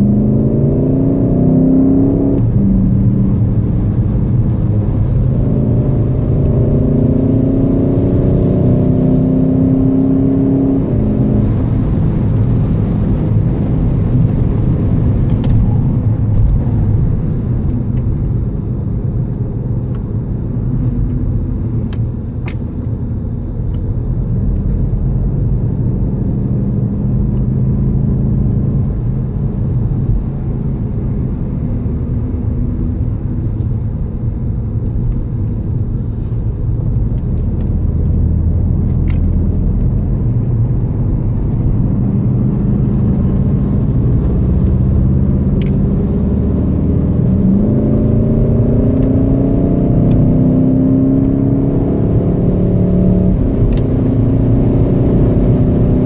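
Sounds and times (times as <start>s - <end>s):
car engine drone inside cabin: 0.0s - 56.0s
tyre and road noise: 0.0s - 56.0s.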